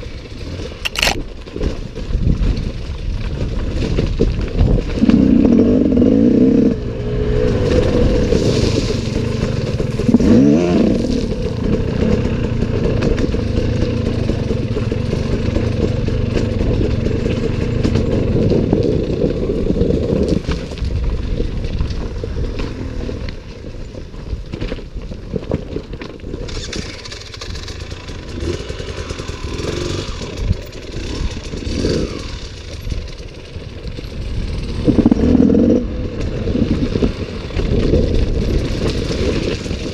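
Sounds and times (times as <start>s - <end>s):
bike rattling over rough trail: 0.0s - 39.9s
motorcycle engine running: 0.0s - 39.9s.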